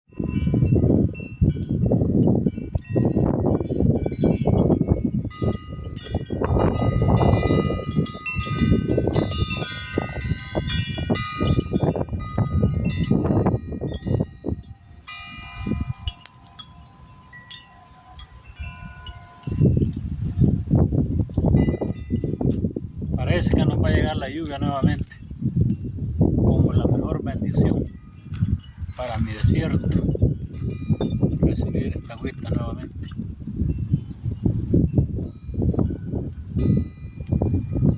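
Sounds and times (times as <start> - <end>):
wind buffeting microphone: 0.1 - 37.9
wind chimes tinkling: 0.1 - 37.9.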